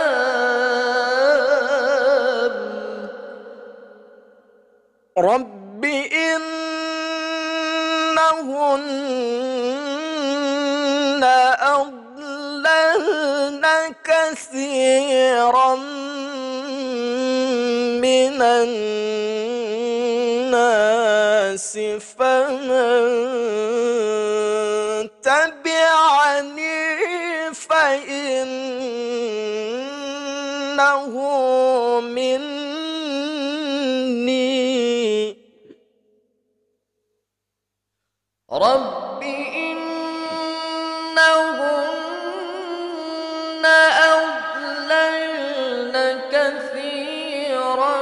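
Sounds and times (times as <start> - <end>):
man reciting melodically: 0.0 - 35.8, 38.5 - 48.0.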